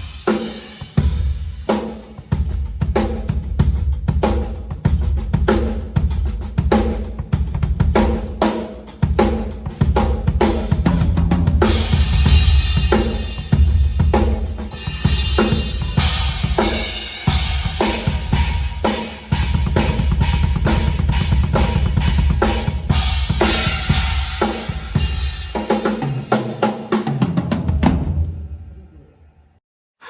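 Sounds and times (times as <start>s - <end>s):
drum kit groove: 0.0s - 28.4s.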